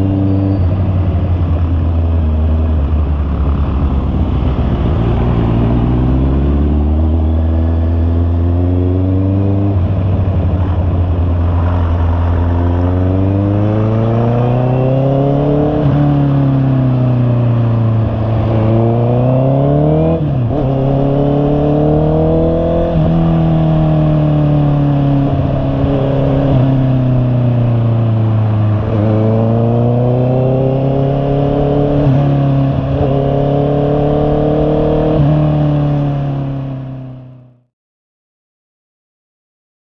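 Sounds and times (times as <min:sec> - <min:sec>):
motorcycle engine revving: 0:00.0 - 0:37.6.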